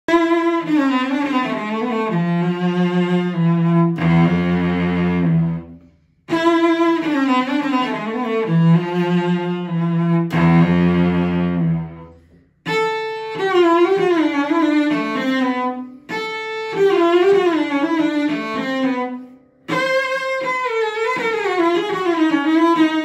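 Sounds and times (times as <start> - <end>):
bowed cello phrase: 0.1 - 20.5.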